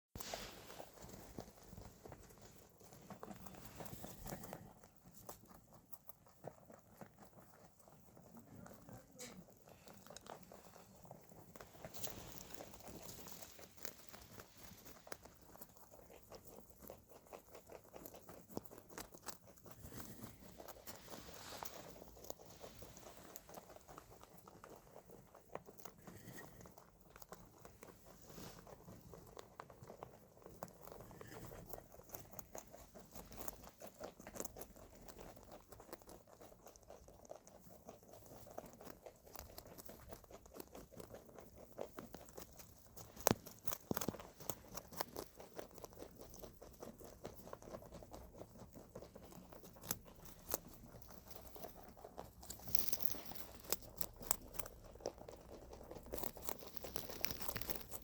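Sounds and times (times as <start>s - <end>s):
rabbits crunching greens: 0.1s - 58.0s.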